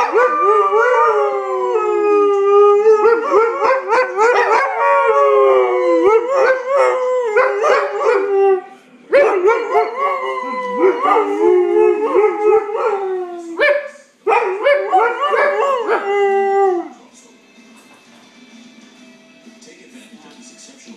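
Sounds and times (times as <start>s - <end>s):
dogs howling: 0.0s - 17.0s.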